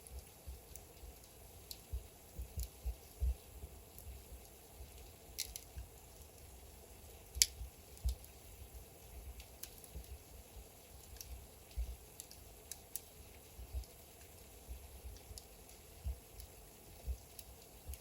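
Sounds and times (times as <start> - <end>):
faint steady hiss: 0.0 - 18.0
wood fire crackling and popping: 0.0 - 18.0.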